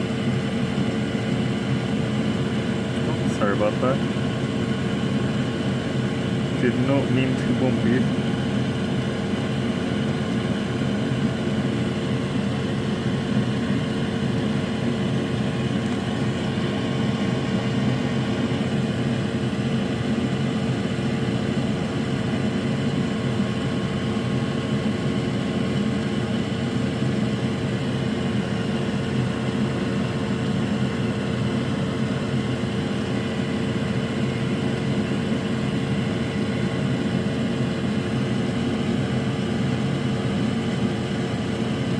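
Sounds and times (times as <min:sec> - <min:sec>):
fan whirring drone: 0:00.0 - 0:41.9.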